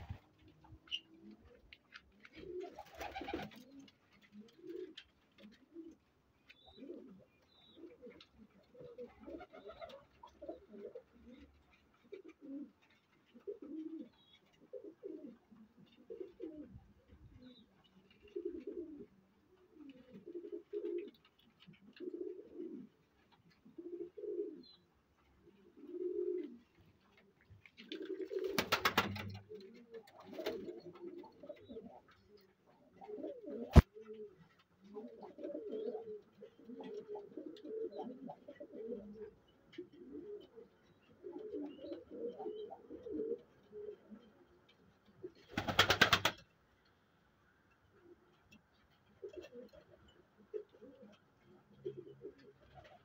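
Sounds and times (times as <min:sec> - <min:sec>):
pigeons cooing: 0:00.0 - 0:27.2, 0:27.8 - 0:46.4, 0:49.1 - 0:53.0.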